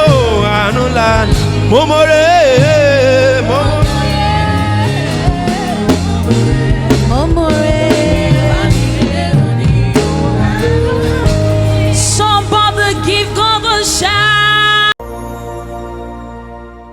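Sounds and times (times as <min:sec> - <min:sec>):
gospel worship band: 0:00.0 - 0:16.9.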